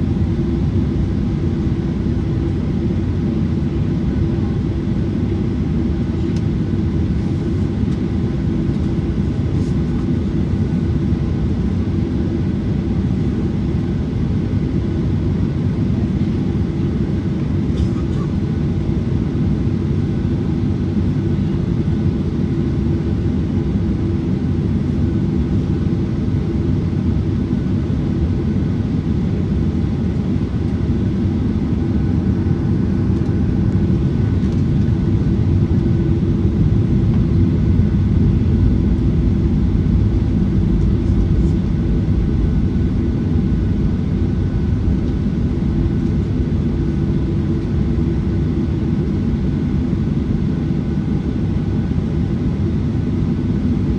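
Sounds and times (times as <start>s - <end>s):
jet engines roaring in cabin: 0.0s - 53.9s.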